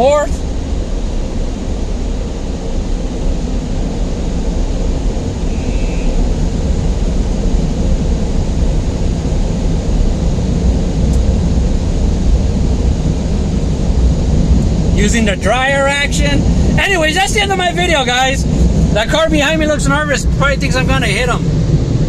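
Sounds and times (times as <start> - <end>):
car wash air blowers roaring: 0.0 - 22.0.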